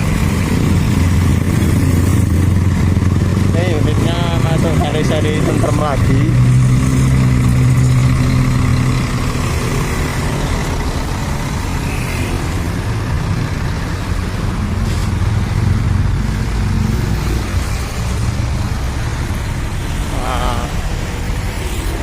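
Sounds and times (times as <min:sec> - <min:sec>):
diesel bus engine running: 0:00.0 - 0:22.0.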